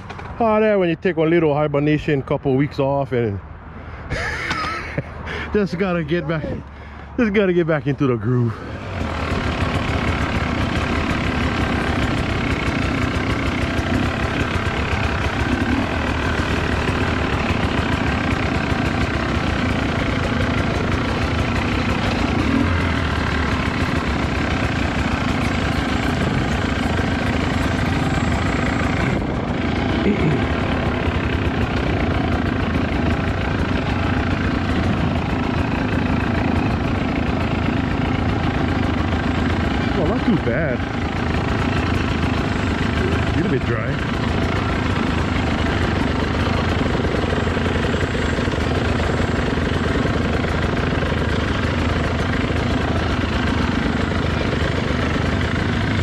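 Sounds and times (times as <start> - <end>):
dirt bike engine running: 4.2 - 56.0.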